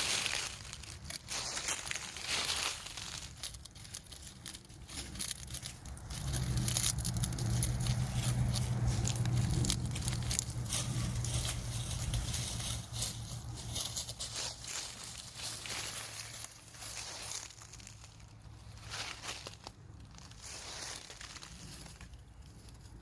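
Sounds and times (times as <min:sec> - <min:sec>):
dense crackling and crunching: 0:00.0 - 0:23.0
low steady hum: 0:00.0 - 0:23.0.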